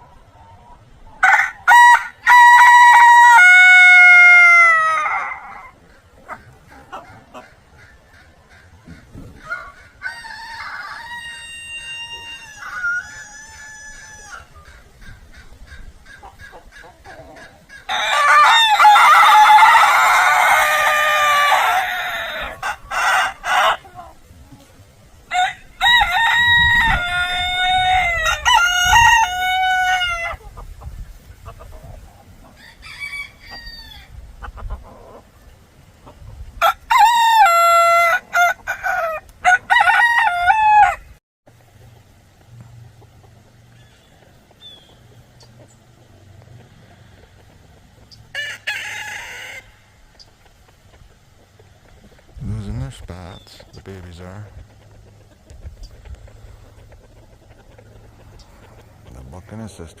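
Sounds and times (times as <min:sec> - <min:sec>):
roosters crowing: 0:01.1 - 0:30.8, 0:31.5 - 1:00.0.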